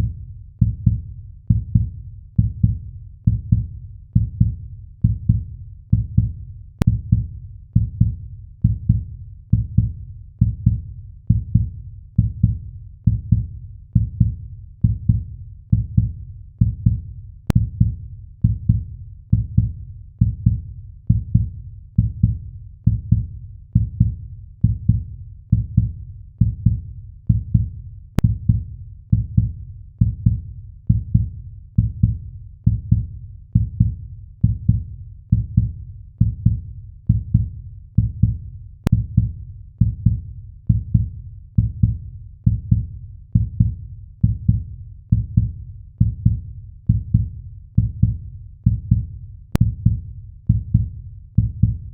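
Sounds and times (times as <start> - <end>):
heartbeat thumps: 0.0 - 51.9.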